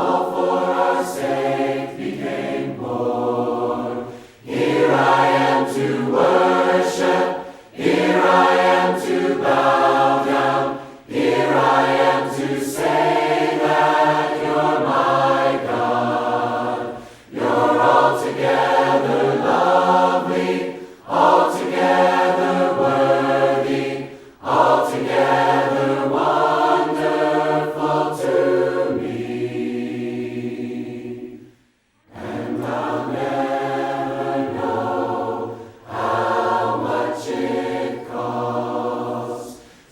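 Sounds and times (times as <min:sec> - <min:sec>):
group singing a hymn a cappella: 0:00.0 - 0:39.9.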